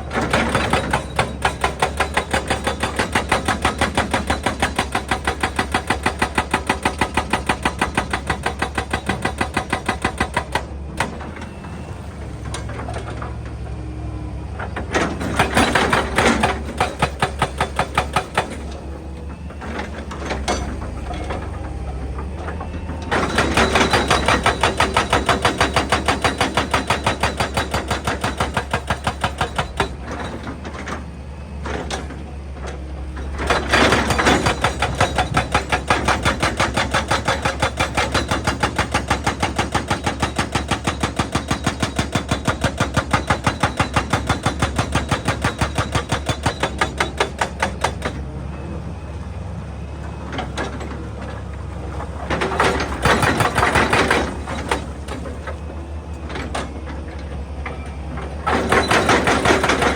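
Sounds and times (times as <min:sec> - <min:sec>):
hydraulic rock breaker hammering: 0:00.0 - 0:13.5, 0:14.6 - 0:31.0, 0:31.6 - 0:48.3, 0:50.3 - 0:59.9.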